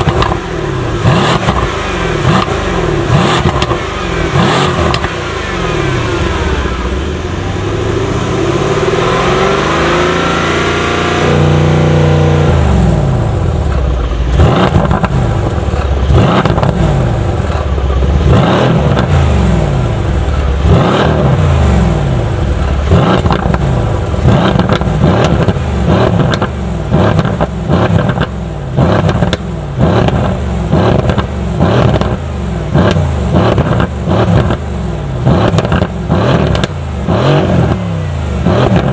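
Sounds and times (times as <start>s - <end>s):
exhaust pops and crackles: 0.0s - 5.3s, 12.4s - 38.9s
car engine revving: 0.0s - 38.9s.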